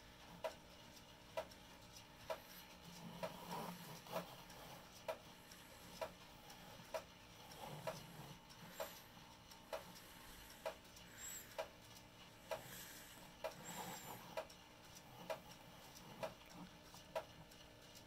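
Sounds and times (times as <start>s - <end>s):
clock ticking: 0.0s - 18.0s.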